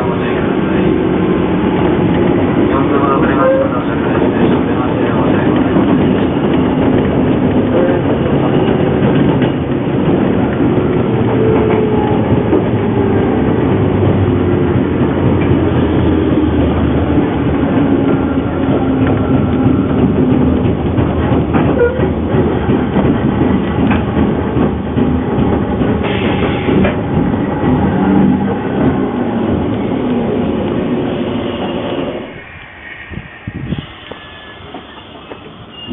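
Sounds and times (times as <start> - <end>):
train wheels clacking over rails: 0.0 - 32.3.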